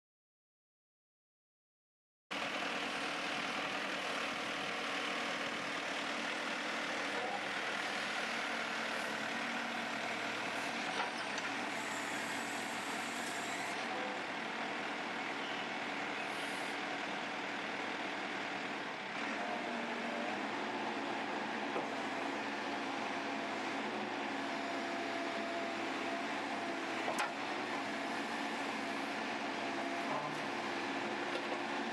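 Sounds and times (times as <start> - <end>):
diesel engine running: 2.3 - 31.9.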